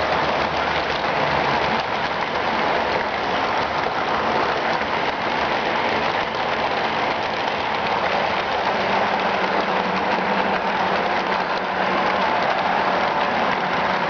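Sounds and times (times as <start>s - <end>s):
model trains whirring on track: 0.0s - 14.0s.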